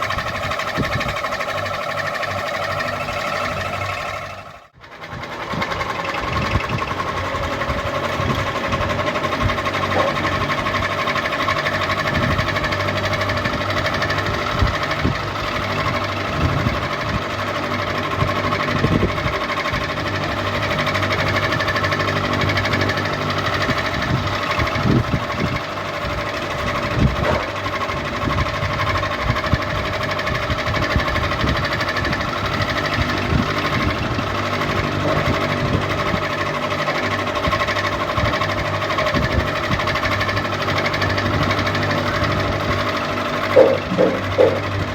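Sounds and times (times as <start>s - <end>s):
ceiling fan motor hum: 0.0s - 44.9s.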